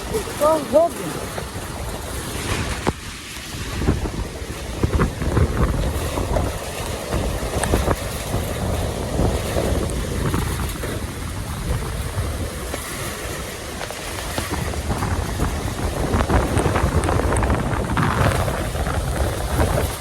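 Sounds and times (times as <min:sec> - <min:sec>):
heavy rain pouring: 0:00.0 - 0:20.0
wind buffeting microphone: 0:00.0 - 0:20.0.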